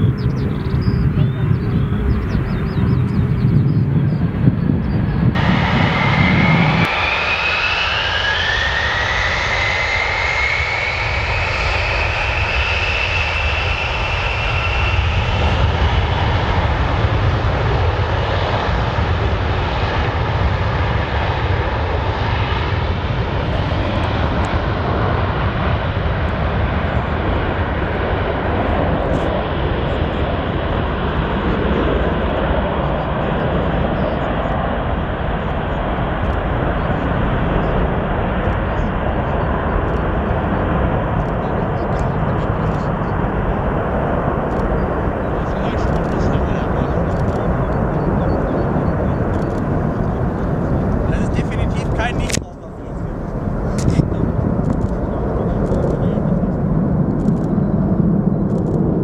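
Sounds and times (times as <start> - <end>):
high turbine whine: 0.0 - 59.0
jet engines roaring: 0.0 - 59.0.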